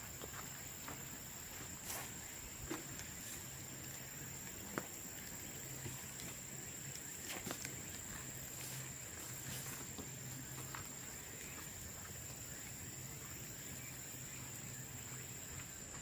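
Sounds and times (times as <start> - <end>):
bonfire crackling: 0.0 - 12.8.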